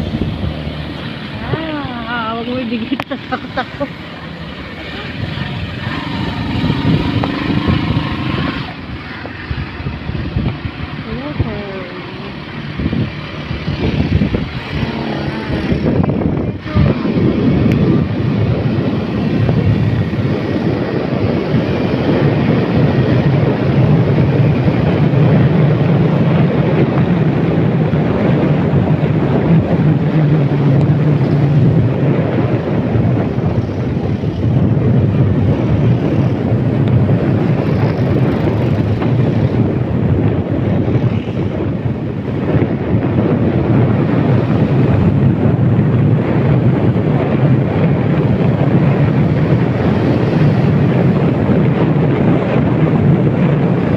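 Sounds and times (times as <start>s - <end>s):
vehicle engine running: 0.0s - 46.8s
wind noise on microphone: 0.0s - 53.9s.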